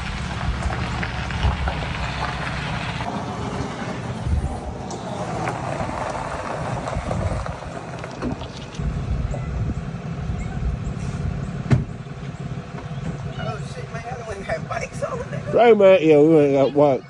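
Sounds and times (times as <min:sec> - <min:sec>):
road and wind noise hiss: 0:00.0 - 0:17.0
vehicle engine rumble: 0:00.0 - 0:17.0.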